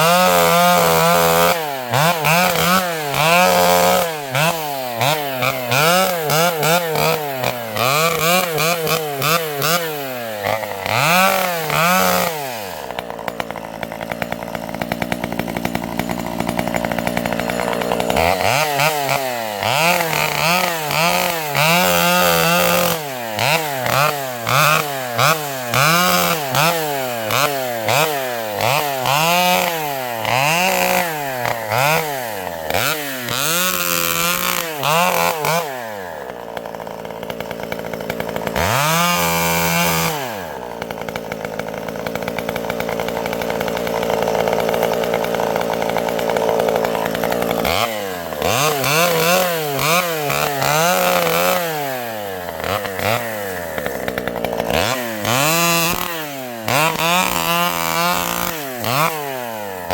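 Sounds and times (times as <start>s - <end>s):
chainsaw engine surging: 0.0s - 59.9s.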